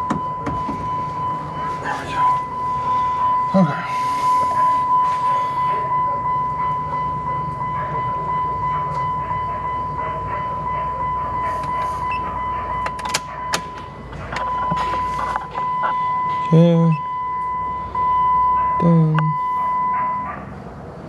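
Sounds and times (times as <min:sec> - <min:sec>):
high-pitched tone: 0:00.0 - 0:20.3
car engine idling: 0:00.0 - 0:21.0.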